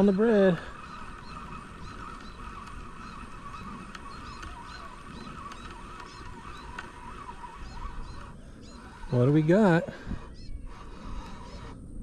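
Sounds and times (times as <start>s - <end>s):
chatter of bird calls: 0.0s - 11.8s
birds chirping: 0.0s - 12.0s.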